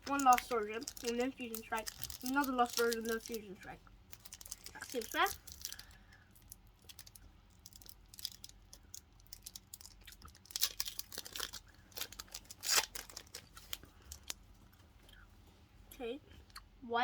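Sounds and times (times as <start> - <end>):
foil wrapper ripping: 0.0 - 14.4
foil wrapper crinkling: 0.0 - 14.5.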